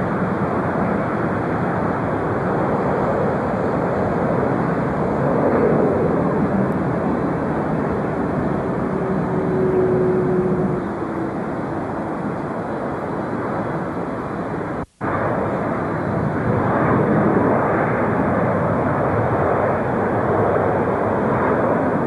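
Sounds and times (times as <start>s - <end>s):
jet engine rush: 0.0s - 22.0s.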